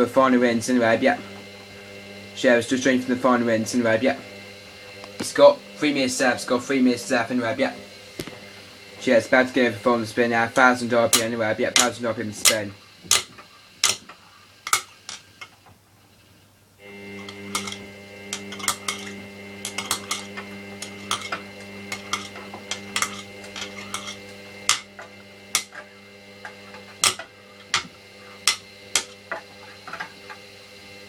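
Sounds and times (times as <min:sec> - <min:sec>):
washing machine motor humming: 0:00.0 - 0:31.0.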